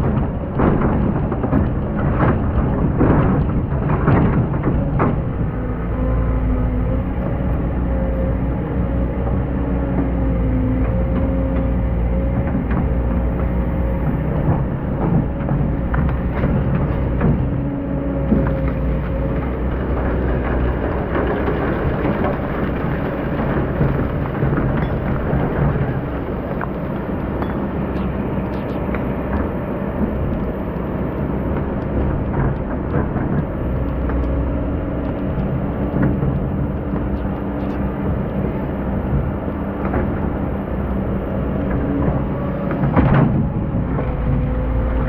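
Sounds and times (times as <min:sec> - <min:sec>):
excavator diesel engine under load: 0:00.0 - 0:45.0.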